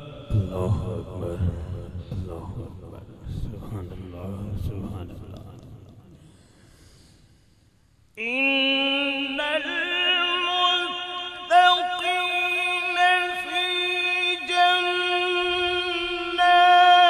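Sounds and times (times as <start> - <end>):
man reciting in melodic chant: 0.0 - 6.2, 8.2 - 17.0.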